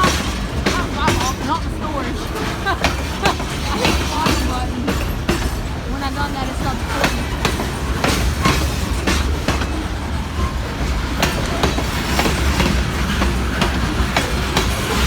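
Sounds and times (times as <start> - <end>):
railroad cars rumbling: 0.0 - 15.0
wheels clacking over rail joints: 0.0 - 15.0.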